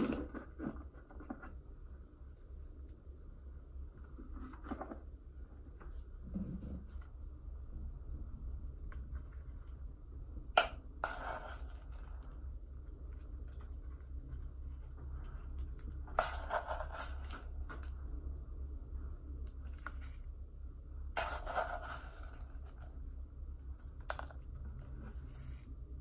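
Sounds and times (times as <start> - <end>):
low hum: 1.6 - 26.0.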